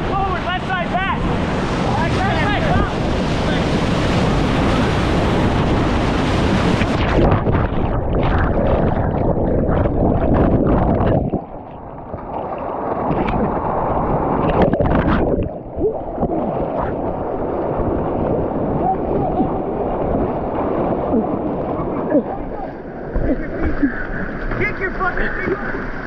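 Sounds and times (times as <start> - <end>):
wind buffeting microphone: 0.0 - 24.6
whitewater rushing and splashing: 0.0 - 26.0.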